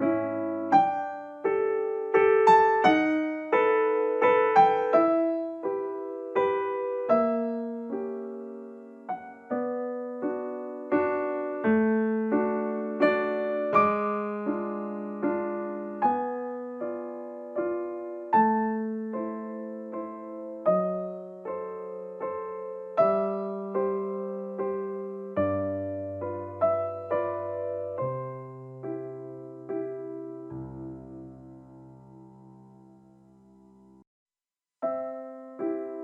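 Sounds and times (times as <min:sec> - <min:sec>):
gentle piano chords: 0:00.0 - 0:34.1, 0:34.8 - 0:36.0.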